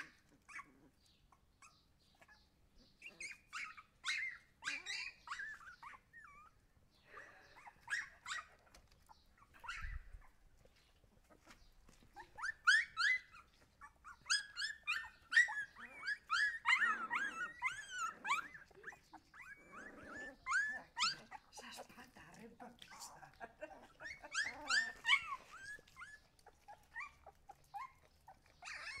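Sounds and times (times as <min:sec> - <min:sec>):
puppies whining and yelping: 0:00.0 - 0:21.9, 0:22.8 - 0:29.0.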